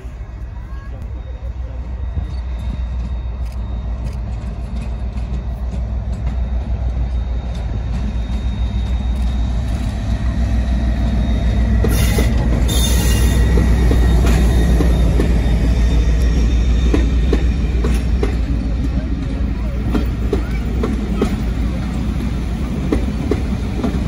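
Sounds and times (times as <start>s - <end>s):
diesel locomotive engine drone: 0.0s - 24.0s
train wheels clicking on rail joints: 2.1s - 24.0s.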